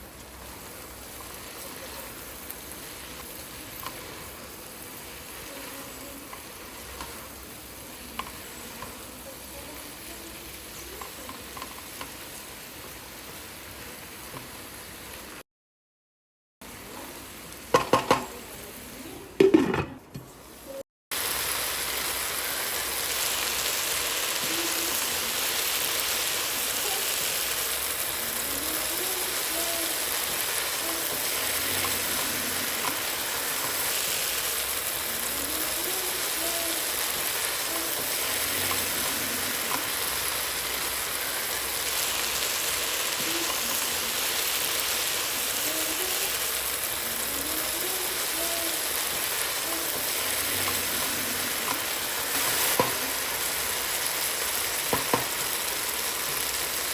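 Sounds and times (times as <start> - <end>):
okra sizzling in oil: 0.0 - 15.4, 16.6 - 19.6, 20.4 - 56.9.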